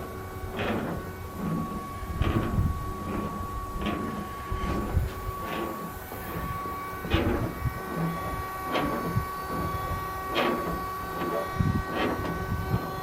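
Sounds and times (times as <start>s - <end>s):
wiper linkage swishing: 0.0s - 13.0s
wiper motor whine: 0.0s - 13.0s.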